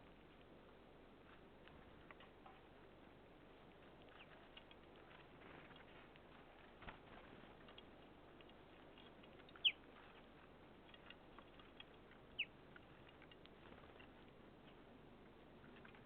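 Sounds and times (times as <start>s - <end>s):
faint ticks and pattering: 0.0s - 16.0s.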